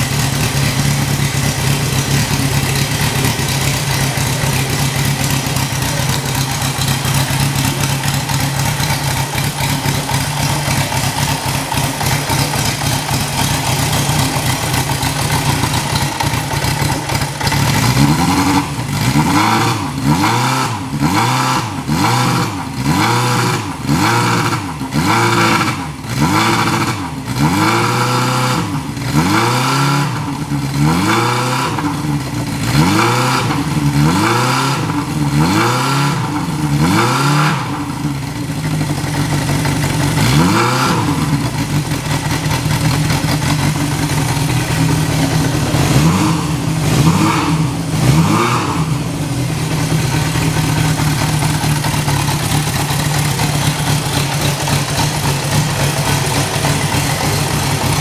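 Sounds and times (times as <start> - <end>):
motorcycle engine revving and idling: 0.0 - 58.0.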